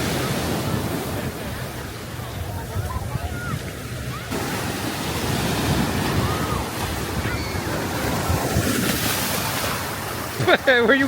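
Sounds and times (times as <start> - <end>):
wind rushing over microphone: 0.0 - 10.4
ocean surf washing ashore: 0.0 - 11.0.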